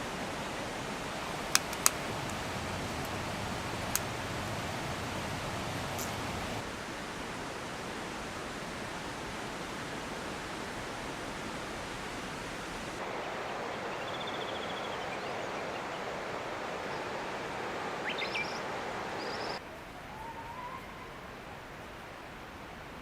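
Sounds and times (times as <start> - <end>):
stream rushing: 0.0 - 20.2.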